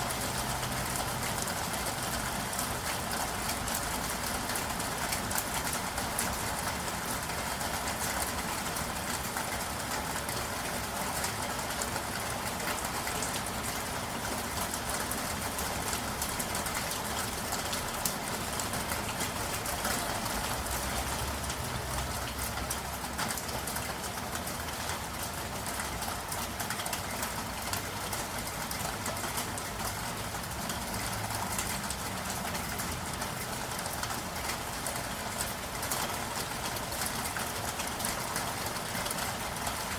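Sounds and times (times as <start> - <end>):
rain on city surfaces: 0.0 - 39.9.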